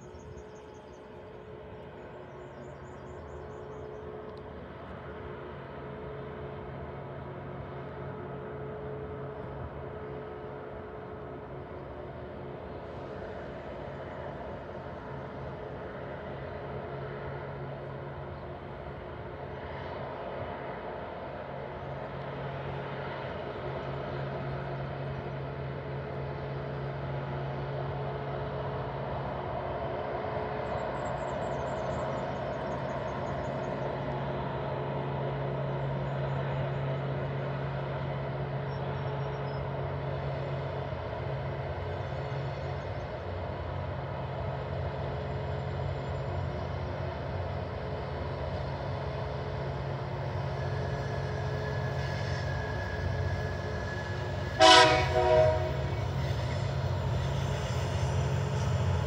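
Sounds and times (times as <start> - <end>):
locomotive engine drone: 0.0 - 59.0.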